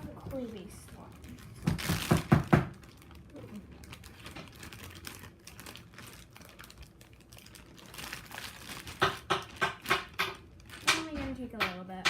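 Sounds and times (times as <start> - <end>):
slime squished in plastic bag: 0.0 - 11.2.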